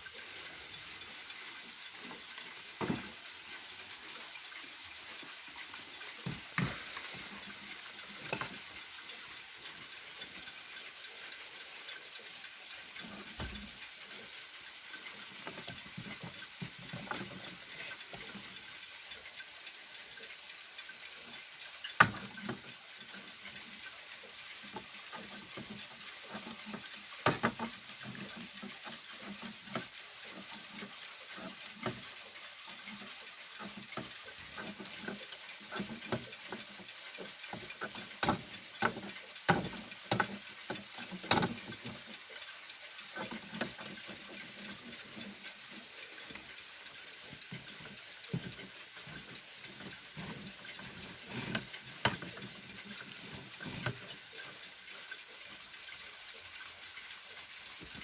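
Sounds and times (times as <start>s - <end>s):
clock movement clicks: 0.0s - 58.0s
steady hiss: 0.0s - 58.0s.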